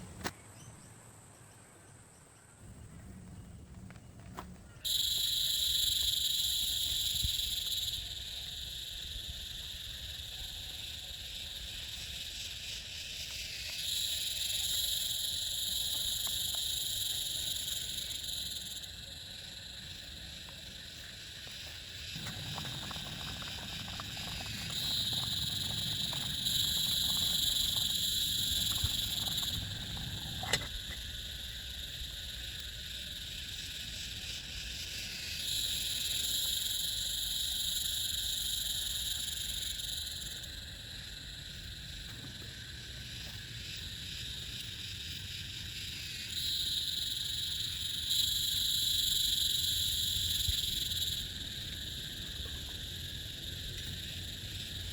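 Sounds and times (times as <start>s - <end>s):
frogs or insects chorus: 0.0s - 54.9s.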